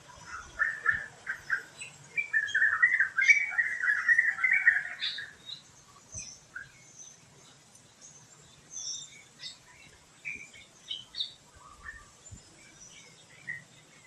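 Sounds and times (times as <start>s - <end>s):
faint forest background hiss: 0.0s - 14.0s
small birds chirping: 0.0s - 14.0s.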